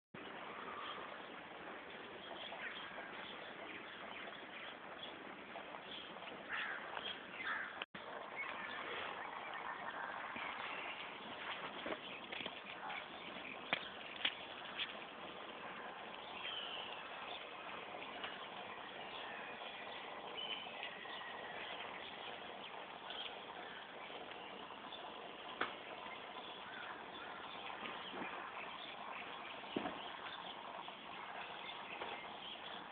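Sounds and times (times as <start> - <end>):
steady hiss: 0.2 - 32.9
bird calls: 0.3 - 32.9.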